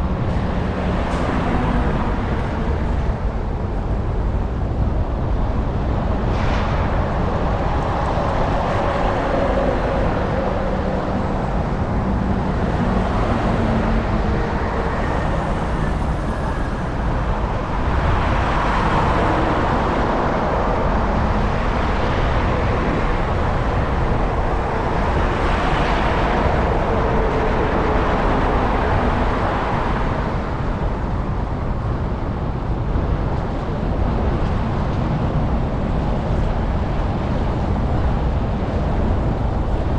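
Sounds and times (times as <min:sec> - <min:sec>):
road traffic: 0:00.0 - 0:39.9
wind rumble on microphone: 0:00.0 - 0:39.9.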